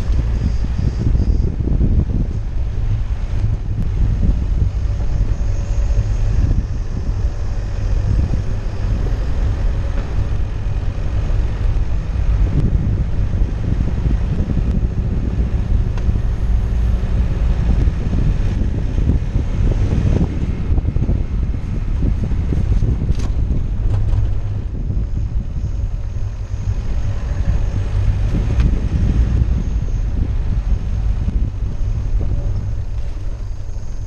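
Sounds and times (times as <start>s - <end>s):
vehicle driving on gravel: 0.0s - 34.0s
wind buffeting microphone: 0.0s - 34.0s.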